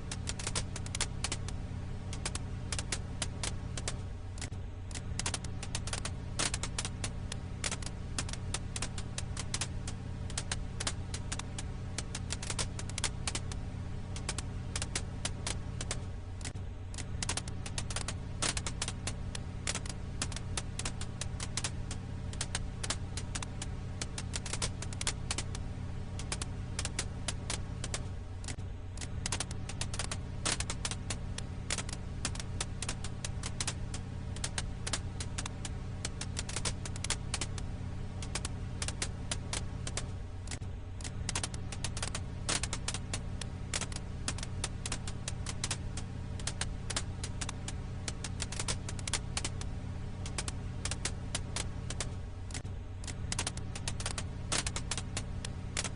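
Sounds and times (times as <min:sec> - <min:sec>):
steady low hum: 0:00.0 - 0:55.9
wood fire crackling: 0:00.0 - 0:55.9.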